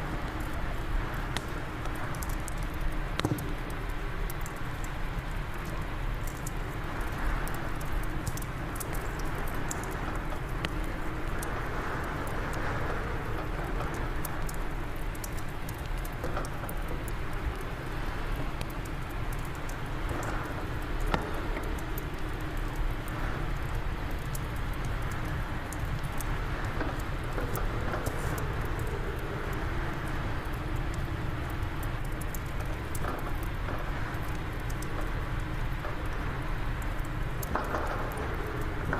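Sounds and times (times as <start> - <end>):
rush of wind: 0.0 - 38.9
wood fire crackling: 0.0 - 38.9.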